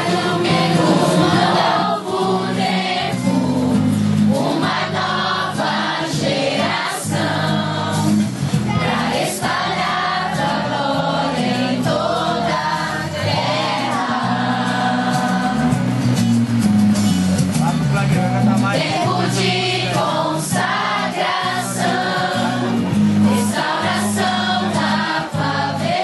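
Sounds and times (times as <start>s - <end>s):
group singing a worship song: 0.0s - 16.2s, 18.8s - 26.0s
instrumental accompaniment: 0.0s - 26.0s.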